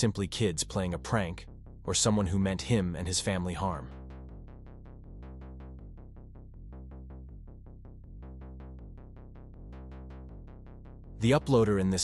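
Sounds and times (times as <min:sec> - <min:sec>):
electronic background music: 0:00.0 - 0:12.0.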